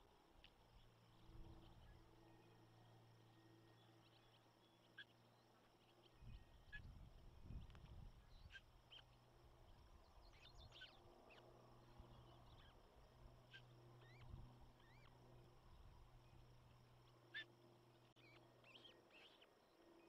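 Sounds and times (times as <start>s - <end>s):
low electrical hum: 0.0s - 20.0s
faint bird chirps: 0.8s - 16.4s, 17.1s - 20.0s.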